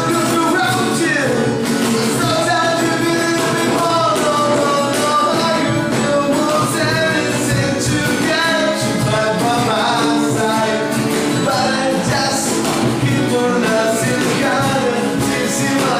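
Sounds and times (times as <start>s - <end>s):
acoustic bass: 0.0s - 15.9s
cajon beat: 0.0s - 15.9s
person singing: 0.0s - 15.9s
strummed acoustic guitars: 0.0s - 15.9s.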